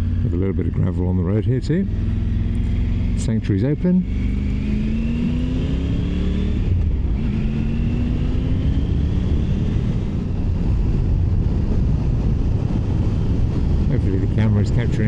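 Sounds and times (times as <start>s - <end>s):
motorcycle engine accelerating: 0.0s - 15.0s
wind and road rumble: 0.0s - 15.0s.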